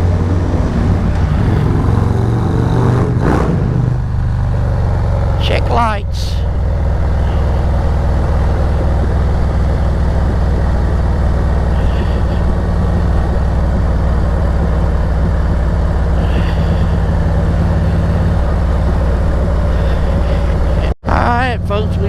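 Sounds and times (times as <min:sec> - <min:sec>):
loud wind noise: 0:00.0 - 0:20.9
motorcycle engine cruising: 0:00.0 - 0:22.0
road noise: 0:00.0 - 0:22.0.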